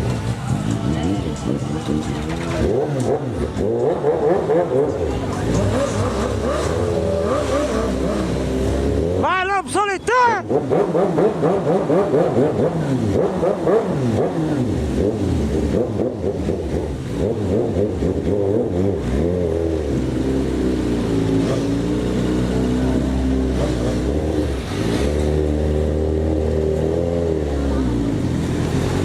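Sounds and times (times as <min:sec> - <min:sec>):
vehicle engine revving: 0:00.0 - 0:09.5, 0:10.4 - 0:29.0.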